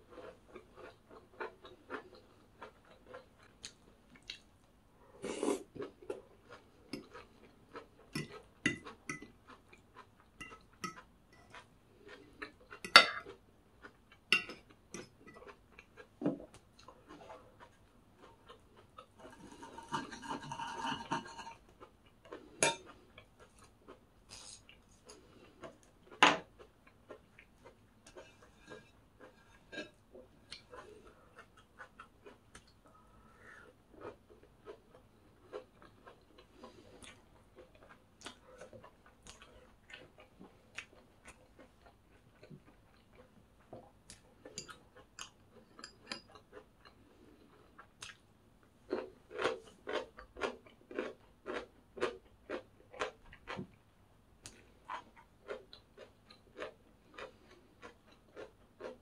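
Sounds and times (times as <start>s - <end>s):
chewing crunchy food: 0.0s - 59.0s.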